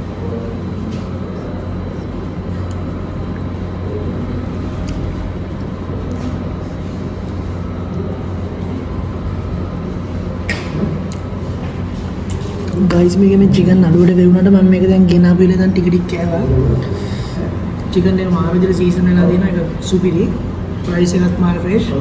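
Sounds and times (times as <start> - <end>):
restaurant room hum: 0.0 - 22.0.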